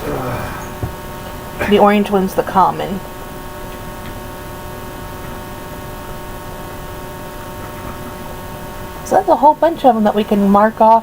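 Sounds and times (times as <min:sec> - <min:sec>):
faint constant tones: 0:00.0 - 0:11.0
steady electrical hum: 0:00.0 - 0:11.0.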